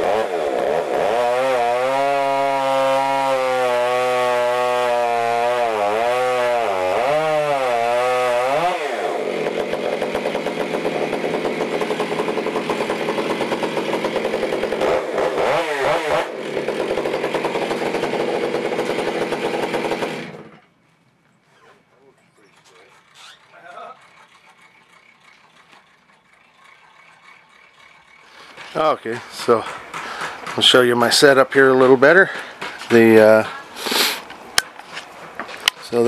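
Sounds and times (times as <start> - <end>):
chainsaw running: 0.0 - 20.6, 22.2 - 34.7.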